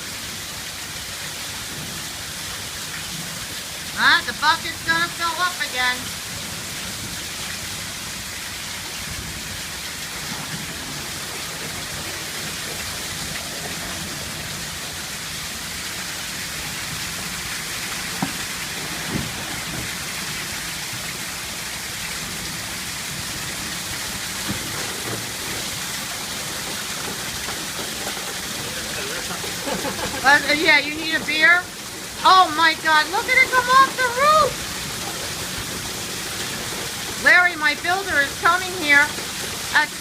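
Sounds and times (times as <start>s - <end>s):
heavy rain hissing: 0.0s - 40.0s.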